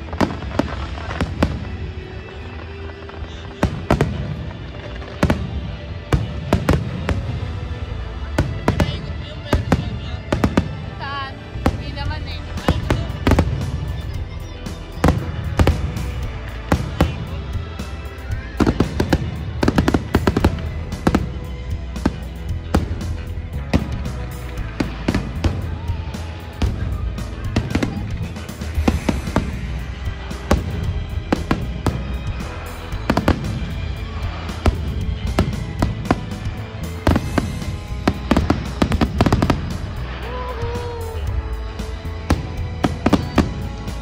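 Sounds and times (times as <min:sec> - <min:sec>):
firework bangs: 0:00.0 - 0:44.0
music: 0:00.0 - 0:44.0.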